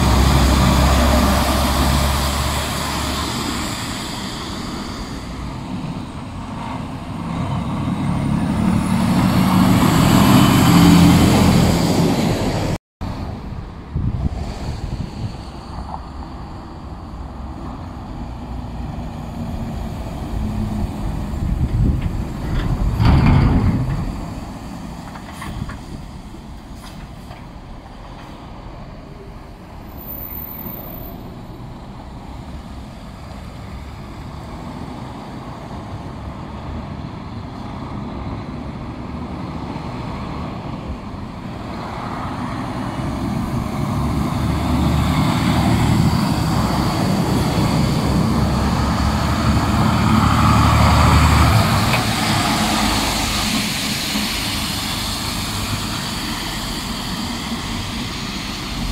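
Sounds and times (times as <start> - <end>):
trucks driving on wet street: 0.0 - 58.9.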